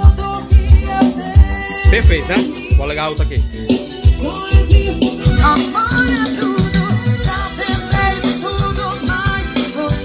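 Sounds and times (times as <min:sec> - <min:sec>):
pop music through car speakers: 0:00.0 - 0:10.0.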